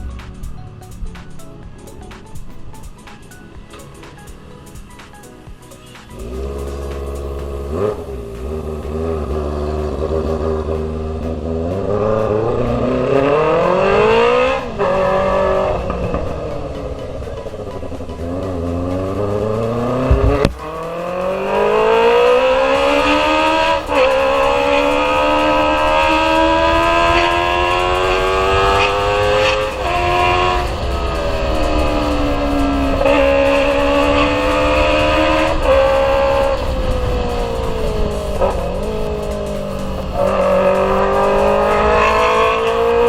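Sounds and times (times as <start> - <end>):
exhaust crack: 0.0 - 43.0
motorcycle engine accelerating: 0.0 - 43.0.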